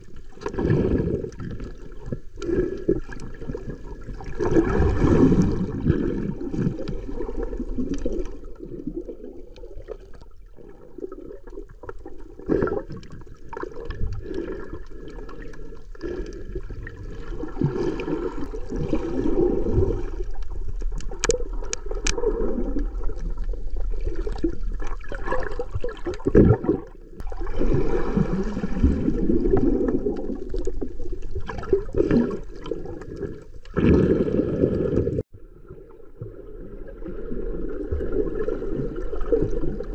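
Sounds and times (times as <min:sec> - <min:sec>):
water rushing underwater: 0:00.0 - 0:39.9.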